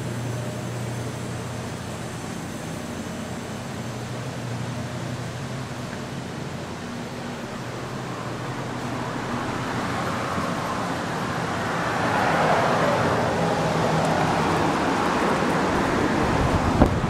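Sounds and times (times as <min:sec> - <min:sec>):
fire engine idling: 0:00.0 - 0:17.0
traffic noise: 0:00.0 - 0:17.0.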